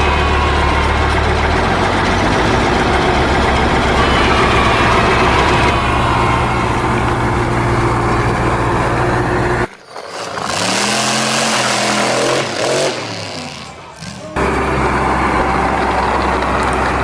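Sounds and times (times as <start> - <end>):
vehicle engine running steadily: 0.0 - 9.7, 12.0 - 17.0
engine rising and falling pitch: 0.0 - 17.0.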